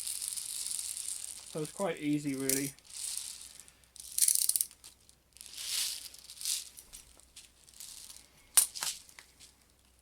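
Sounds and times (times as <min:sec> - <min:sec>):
plastic pellets rattling: 0:00.0 - 0:09.2.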